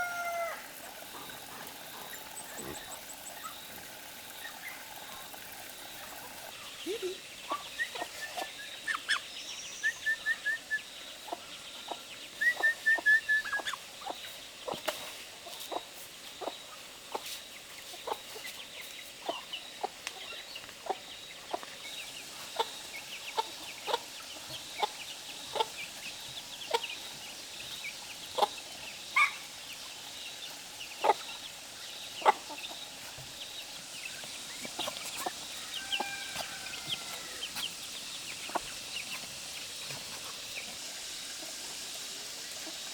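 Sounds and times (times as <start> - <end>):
chickens clucking: 0.0 - 9.2, 11.2 - 18.6, 19.2 - 42.9.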